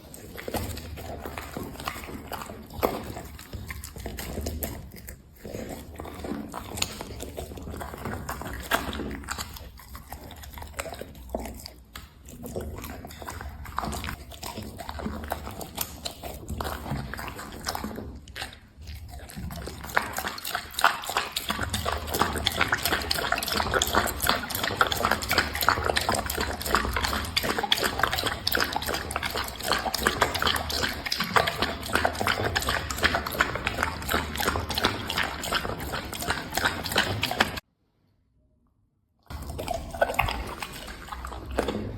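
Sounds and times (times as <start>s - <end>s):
dog chewing wetly: 0.0s - 37.6s, 39.3s - 41.9s.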